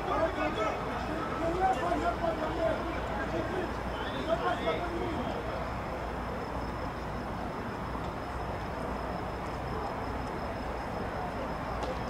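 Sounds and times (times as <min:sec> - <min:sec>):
faint high whine: 0:00.0 - 0:12.0
outdoor background rush: 0:00.0 - 0:12.0.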